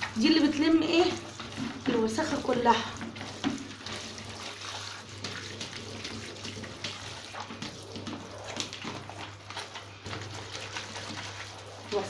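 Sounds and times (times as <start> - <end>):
water running from a tap: 0.0 - 12.0.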